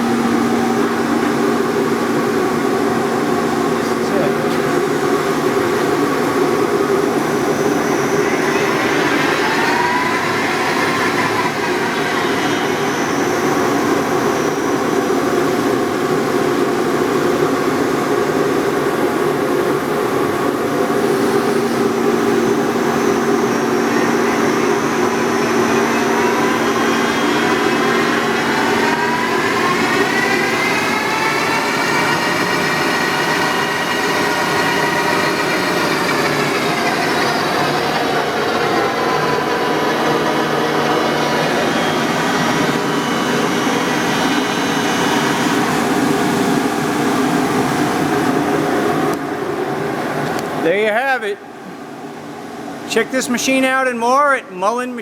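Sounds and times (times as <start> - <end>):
lathe whine changing pitch: 0.0 - 51.0
steady hum: 0.0 - 55.0.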